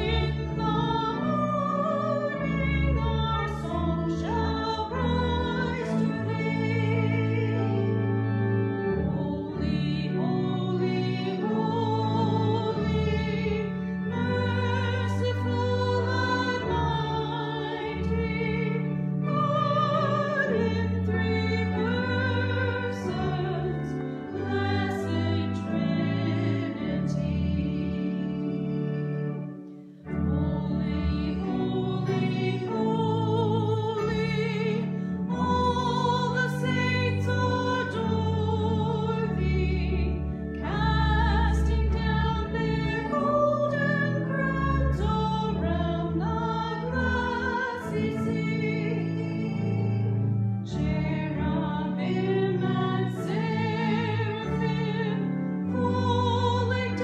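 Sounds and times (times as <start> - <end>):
person singing a hymn: 0.0 - 57.0
sustained accompaniment chords: 0.0 - 57.0.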